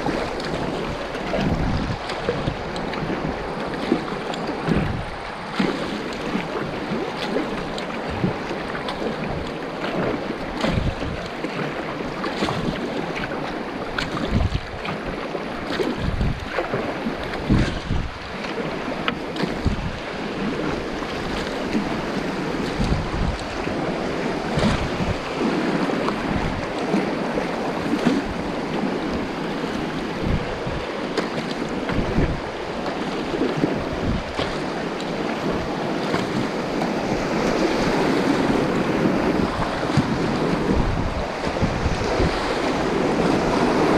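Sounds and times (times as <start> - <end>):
river rapid rushing: 0.0 - 43.9
wind buffeting microphone: 0.0 - 43.9.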